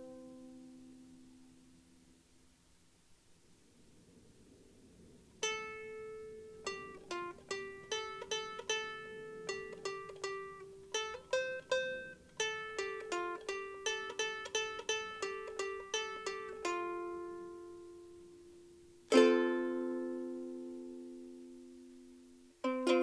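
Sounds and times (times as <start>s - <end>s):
ukulele plucked and strummed: 0.0s - 1.5s, 5.4s - 23.0s.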